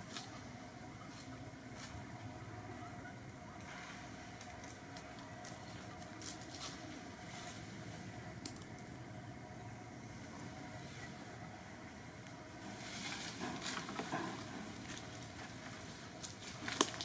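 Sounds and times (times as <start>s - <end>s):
faint outdoor rumble: 0.0s - 17.0s.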